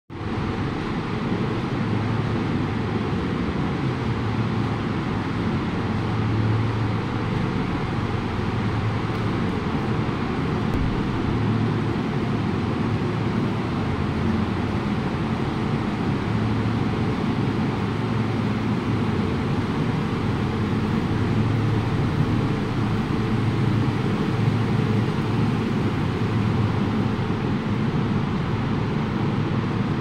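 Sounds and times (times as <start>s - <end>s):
factory machinery drone: 0.1s - 30.0s.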